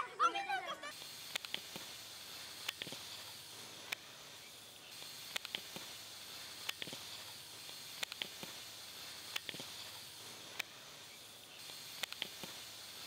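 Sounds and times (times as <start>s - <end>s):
steady hiss: 0.0s - 13.0s
sharp crackles and pops: 0.9s - 13.0s.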